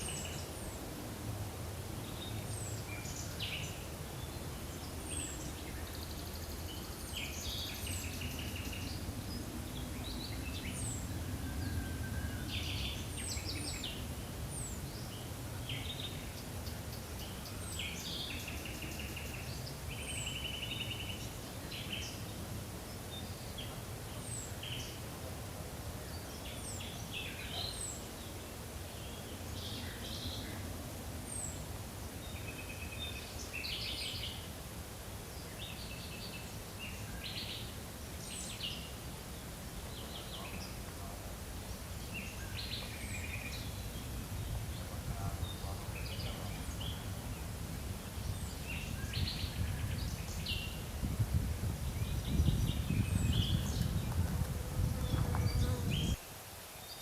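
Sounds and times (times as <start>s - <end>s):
songbirds singing and calling: 0.0s - 0.9s, 2.0s - 25.1s, 26.0s - 34.6s, 35.2s - 57.0s.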